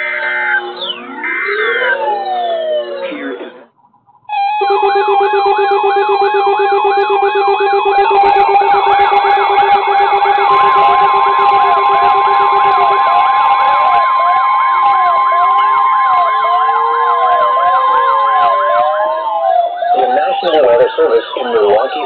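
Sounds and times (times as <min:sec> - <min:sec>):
warbling siren-like alarm sweeps: 0:00.0 - 0:22.0
pulsed beeps: 0:00.7 - 0:22.0
long steady tone: 0:04.3 - 0:22.0.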